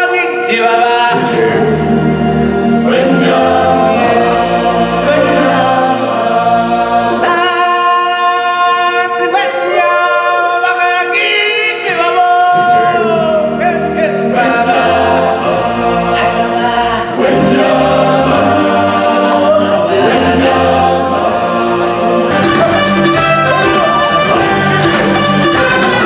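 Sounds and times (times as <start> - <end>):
stage show music: 0.0 - 26.0
choir singing long notes: 0.3 - 26.0.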